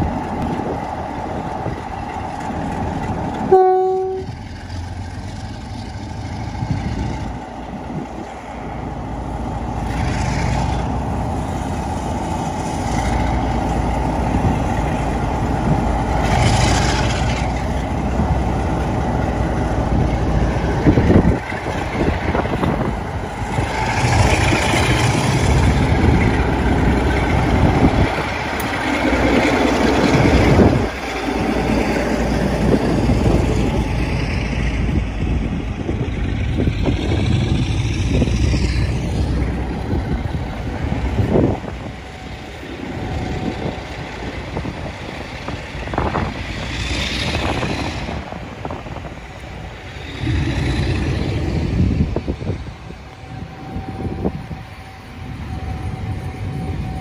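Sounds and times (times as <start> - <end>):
diesel locomotive engine: 0.0 - 57.0.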